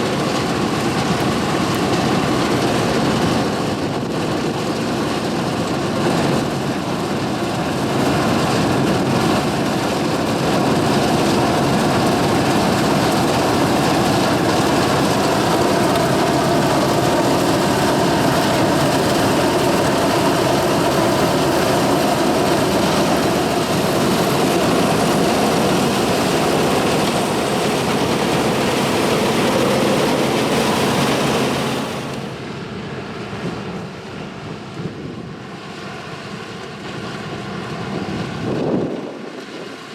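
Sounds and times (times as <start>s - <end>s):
combine diesel engine running: 0.0s - 32.5s
harvesting machinery running: 0.0s - 34.5s.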